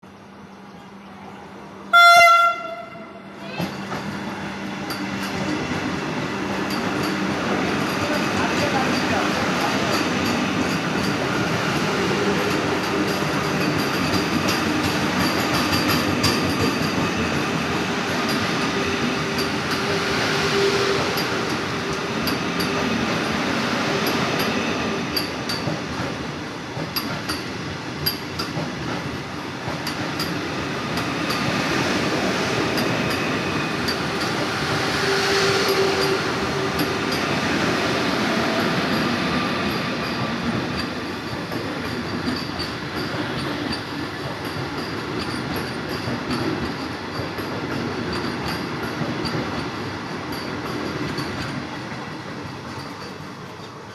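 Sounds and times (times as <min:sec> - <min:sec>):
train rumbling on rails: 0:00.0 - 0:53.9.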